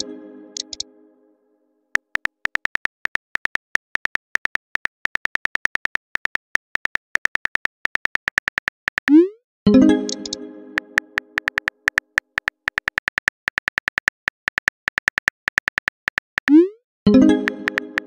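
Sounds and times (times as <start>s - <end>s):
keyboard key clicks: 0.6s - 0.8s, 2.0s - 9.2s, 10.1s - 16.5s, 17.4s - 18.0s.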